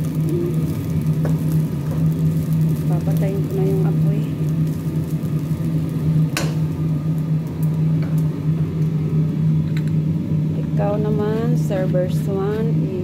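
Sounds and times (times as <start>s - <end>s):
low electric motor hum: 0.0s - 13.0s.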